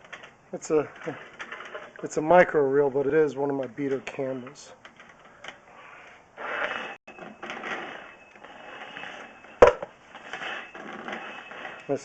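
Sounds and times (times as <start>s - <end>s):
sewer cable scraping and rustling: 0.0s - 12.0s.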